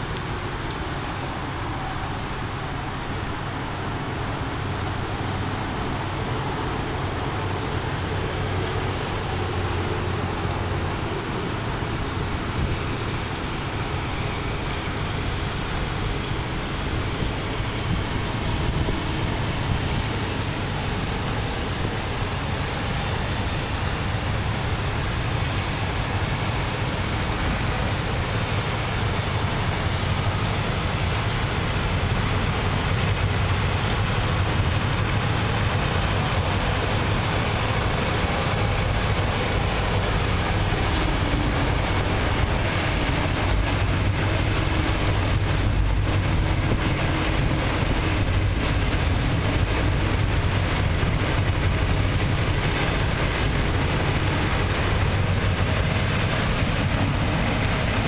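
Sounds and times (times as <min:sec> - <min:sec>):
tugboat diesel engines droning: 0:00.0 - 0:58.0
wind on microphone: 0:05.0 - 0:25.1, 0:25.7 - 0:58.0.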